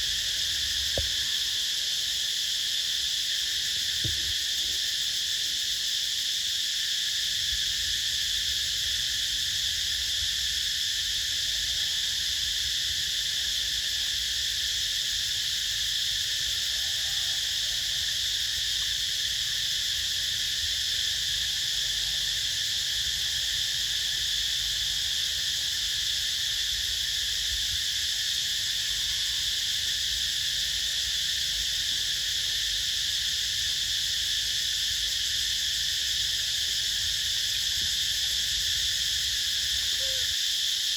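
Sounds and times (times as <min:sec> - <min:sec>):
insect chorus buzzing: 0:00.0 - 0:40.9.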